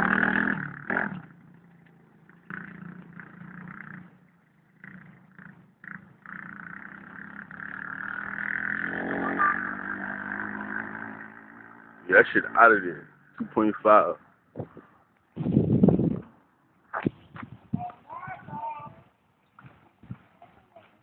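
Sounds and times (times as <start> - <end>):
dirt bike engine: 0.0 - 18.2.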